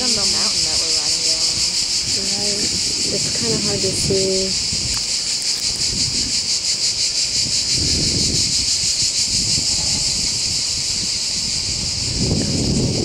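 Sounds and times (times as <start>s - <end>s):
cicadas buzzing: 0.0s - 13.0s
wind buffeting microphone: 0.0s - 13.0s.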